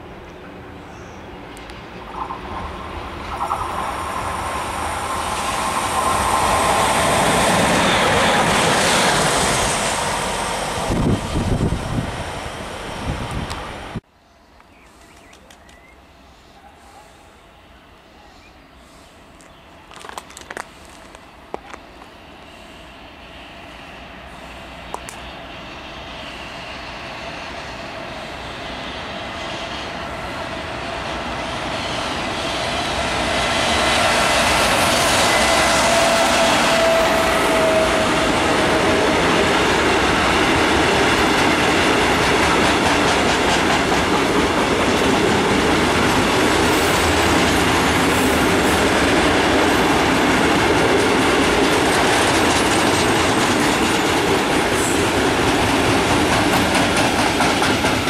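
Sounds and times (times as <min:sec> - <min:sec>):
freight train rumbling and rattling: 0:00.0 - 0:14.1, 0:18.2 - 0:58.0.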